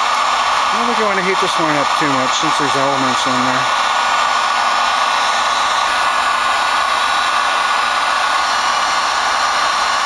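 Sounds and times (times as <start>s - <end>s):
heat gun blowing hot air: 0.0s - 10.0s.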